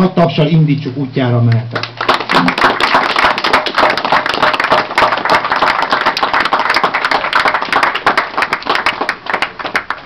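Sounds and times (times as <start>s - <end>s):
crowd clapping: 1.7s - 10.0s.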